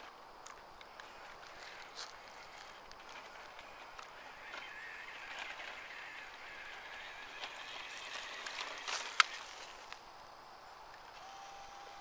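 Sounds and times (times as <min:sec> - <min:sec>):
toy electric motor whining: 0:01.1 - 0:10.0, 0:11.1 - 0:12.0.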